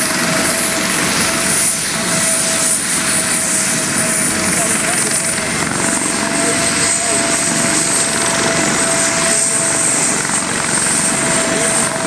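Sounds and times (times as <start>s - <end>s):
constant high whine: 0.0s - 12.0s
helicopter rotor and turbine: 0.0s - 12.0s.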